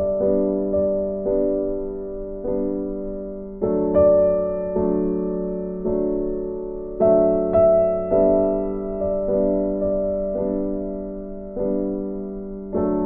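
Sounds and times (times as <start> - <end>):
slow gentle piano chords: 0.0 - 13.0.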